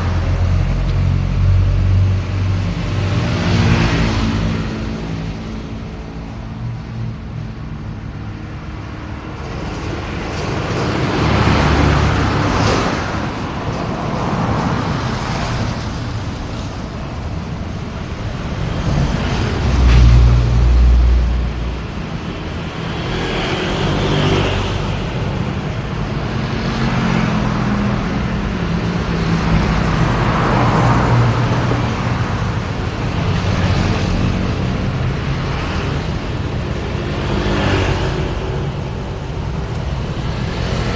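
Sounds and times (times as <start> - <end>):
cars passing: 0.0 - 40.9.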